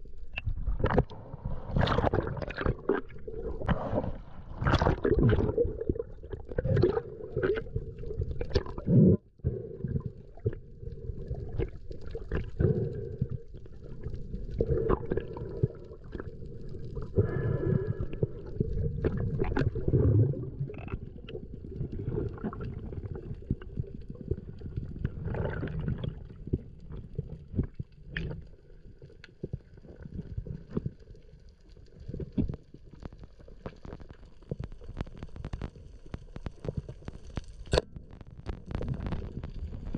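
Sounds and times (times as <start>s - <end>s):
underwater gurgling and rumbling: 0.0s - 39.9s.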